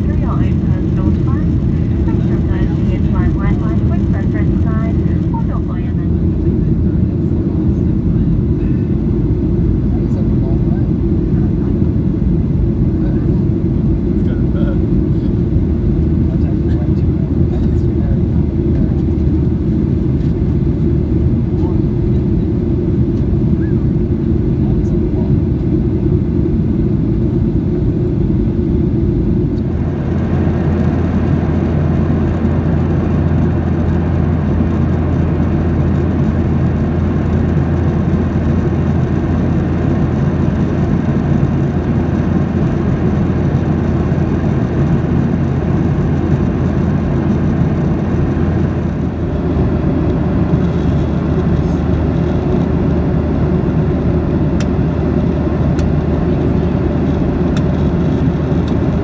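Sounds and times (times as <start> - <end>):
airplane cabin jet engine rush: 0.0 - 59.0.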